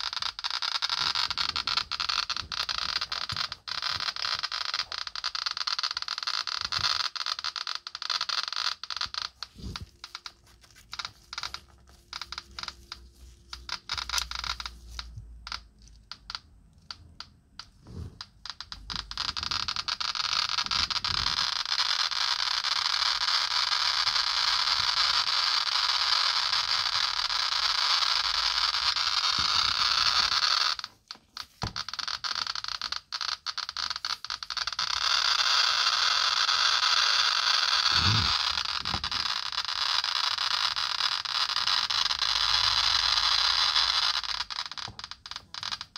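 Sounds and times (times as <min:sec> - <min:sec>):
geiger counter clicking: 0:00.0 - 0:45.9.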